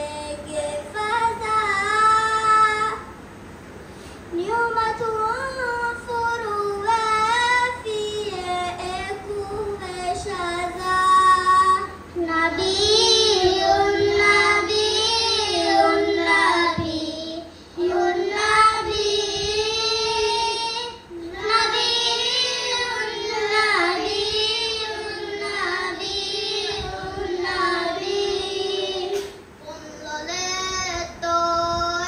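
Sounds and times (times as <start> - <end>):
children singing into microphones: 0.0 - 3.2, 4.3 - 32.0.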